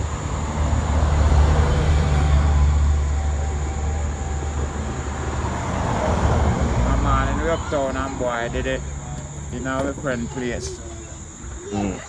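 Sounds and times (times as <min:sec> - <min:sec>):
vehicle engine rumble passing: 0:00.0 - 0:11.9.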